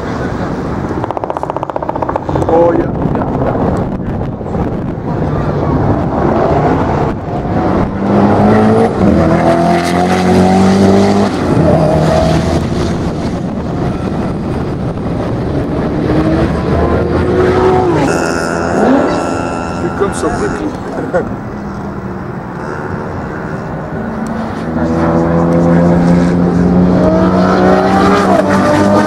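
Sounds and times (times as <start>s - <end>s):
car engine accelerating hard: 5.2s - 29.0s.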